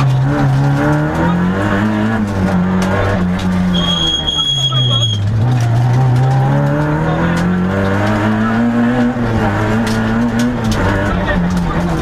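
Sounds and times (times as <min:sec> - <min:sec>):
car engine revving under load: 0:00.0 - 0:12.0.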